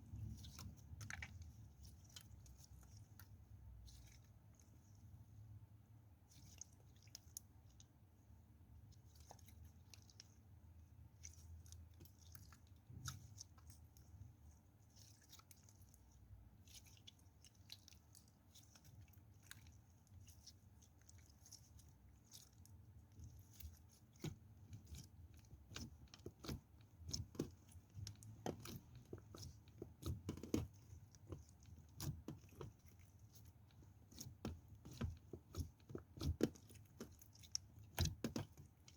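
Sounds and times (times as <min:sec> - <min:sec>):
soap crunching and crackling: 0:00.0 - 0:38.9.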